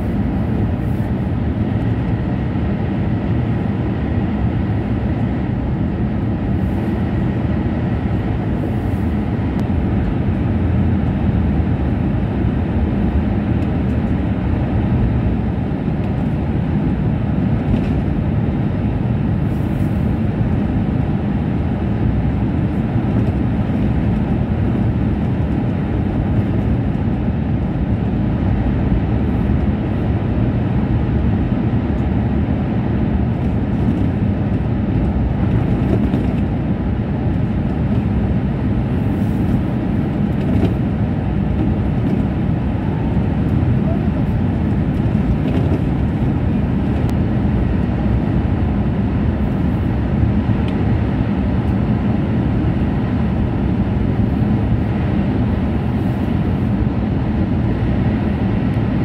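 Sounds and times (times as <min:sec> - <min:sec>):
train rumbling at high speed: 0:00.0 - 0:59.0.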